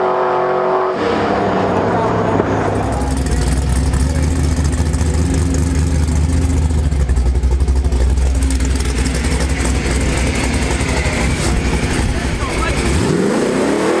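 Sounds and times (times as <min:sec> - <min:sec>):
car engine idling: 0:01.4 - 0:13.8.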